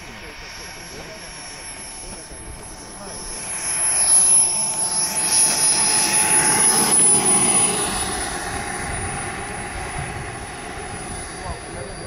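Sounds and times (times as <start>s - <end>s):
small turbine engine whine: 0.0s - 12.0s.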